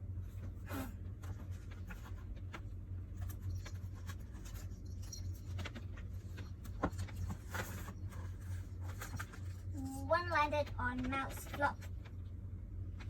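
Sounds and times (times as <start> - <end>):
steady low hum: 0.0 - 13.0
scratching and rustling handling: 0.2 - 13.0.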